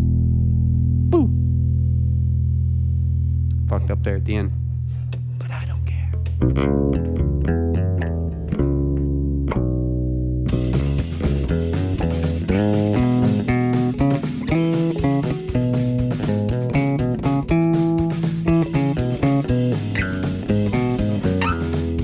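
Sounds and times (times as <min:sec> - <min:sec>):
electric bass guitar plucked: 0:00.0 - 0:05.4, 0:06.1 - 0:22.0.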